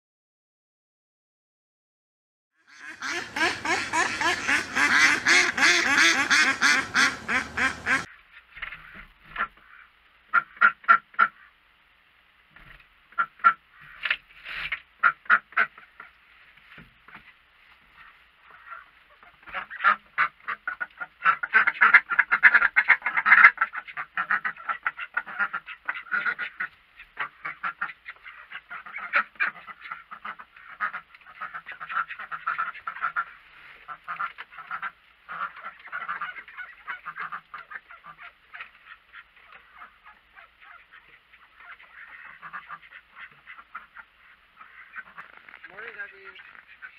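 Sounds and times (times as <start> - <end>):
ducks quacking: 2.6 - 11.6, 12.6 - 16.2, 17.1 - 46.9.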